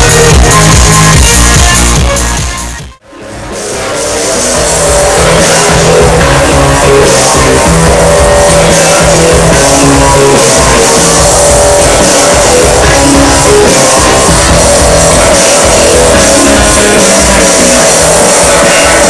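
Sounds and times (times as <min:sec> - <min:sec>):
loud music: 0:00.0 - 0:19.0.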